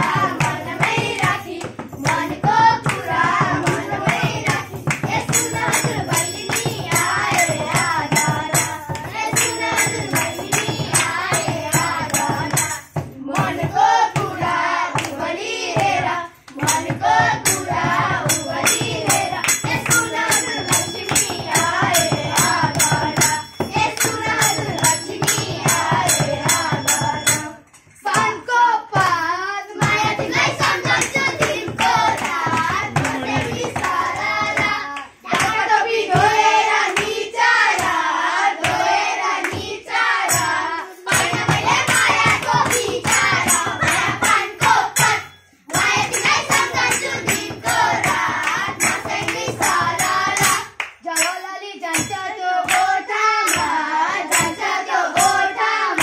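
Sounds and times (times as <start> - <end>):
hands clapping to the beat: 0.0 - 27.6, 29.8 - 56.0
hand drum: 0.0 - 28.4, 29.8 - 36.6, 41.1 - 50.7
children singing: 0.0 - 56.0.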